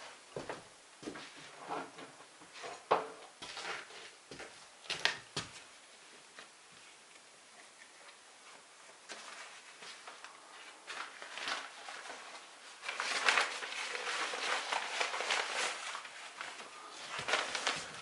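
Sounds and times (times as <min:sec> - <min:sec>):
rustling and scuffing: 0:00.0 - 0:07.0, 0:08.9 - 0:18.0.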